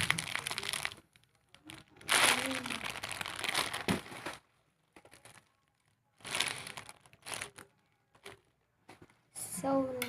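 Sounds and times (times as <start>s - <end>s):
crinkling rustling of toys handled: 0.0s - 9.5s.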